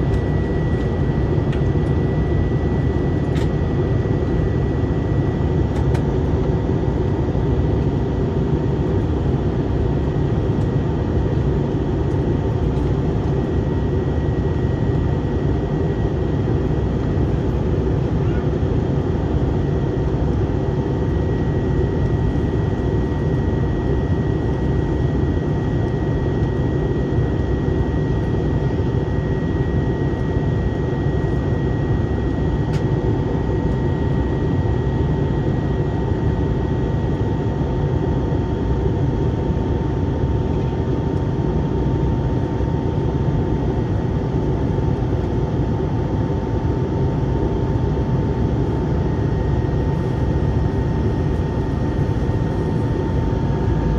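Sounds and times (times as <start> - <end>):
aircraft cabin engine roar: 0.0 - 53.9.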